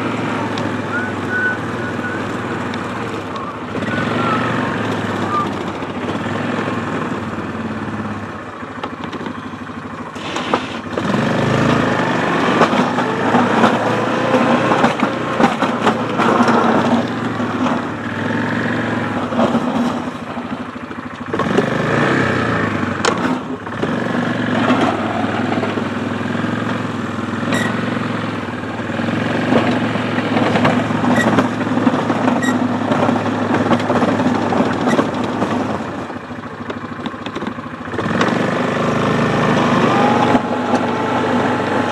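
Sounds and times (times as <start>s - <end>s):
atv engine under load: 0.0s - 41.9s.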